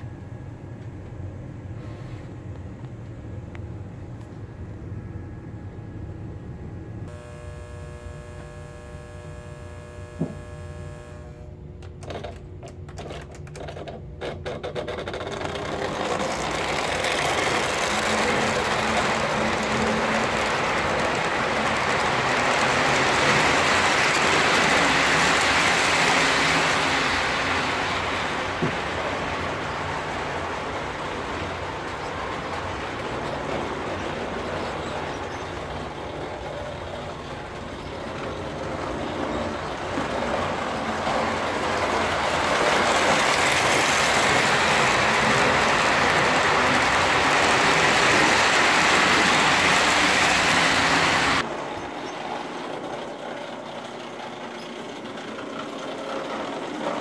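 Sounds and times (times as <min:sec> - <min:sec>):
model train whirring rumble: 0:00.0 - 0:57.0.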